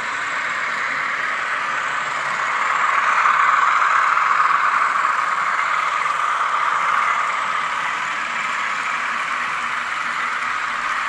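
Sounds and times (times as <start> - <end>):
model locomotive diesel drone: 0.0 - 11.0.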